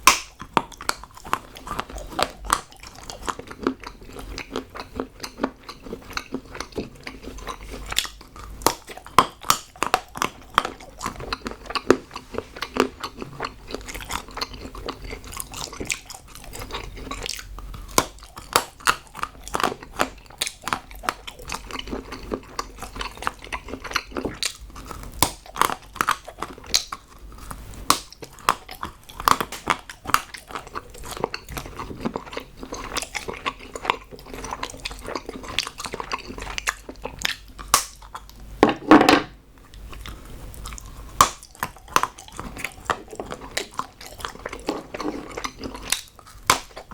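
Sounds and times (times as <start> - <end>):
chewing and crunching chocolate: 0.0 - 38.6, 39.5 - 46.9.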